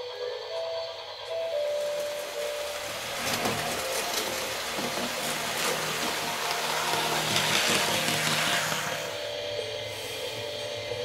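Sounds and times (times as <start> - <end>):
model train rolling hum: 0.0 - 11.0.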